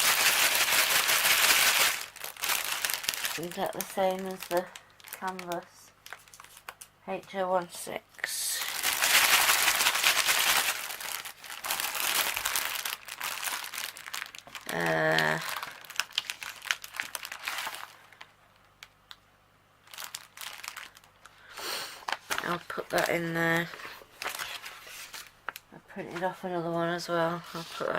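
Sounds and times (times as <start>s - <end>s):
plastic packaging crinkling: 0.0s - 7.0s, 8.5s - 19.2s, 19.8s - 25.7s.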